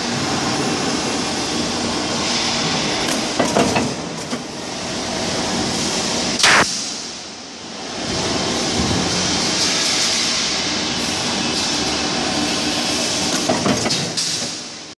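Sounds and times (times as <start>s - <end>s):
machine rattle and hum: 0.0s - 7.2s, 7.8s - 14.9s.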